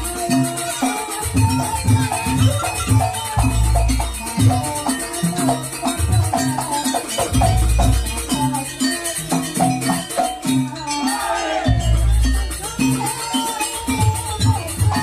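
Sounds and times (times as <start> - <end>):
high metallic jingling: 0.0 - 15.0
pitched percussion melody: 0.0 - 15.0.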